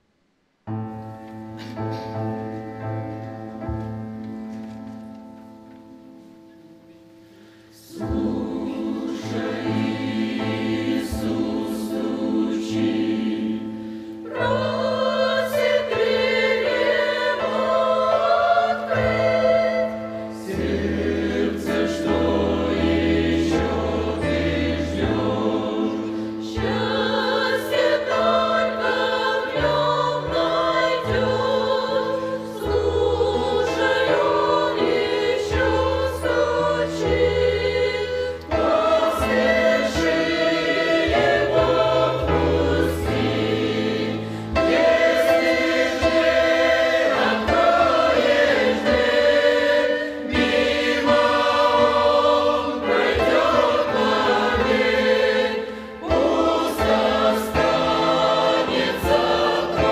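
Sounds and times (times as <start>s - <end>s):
church choir singing: 0.7s - 59.9s.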